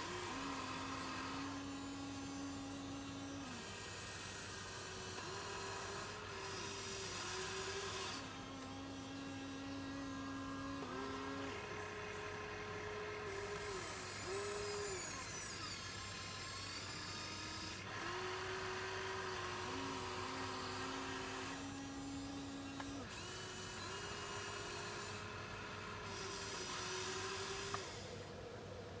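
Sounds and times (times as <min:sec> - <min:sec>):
small electric motors whining: 0:00.0 - 0:29.0.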